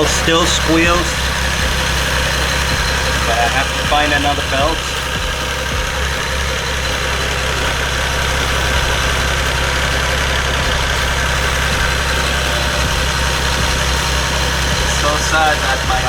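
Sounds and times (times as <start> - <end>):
car engine idling: 0.0 - 16.0
drive belt squealing: 0.0 - 16.0.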